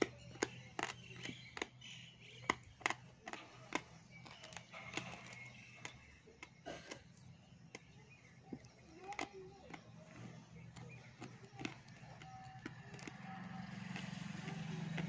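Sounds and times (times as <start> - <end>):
clay crunching while chewed: 0.0 - 15.0
faint low hum: 0.0 - 15.0.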